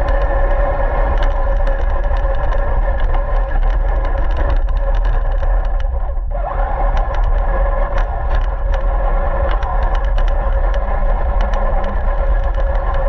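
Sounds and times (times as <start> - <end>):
chassis ticks and rattles: 0.0 - 6.2, 6.9 - 13.0
heavy rumble: 0.0 - 13.0
rc car motor whine: 0.0 - 13.0.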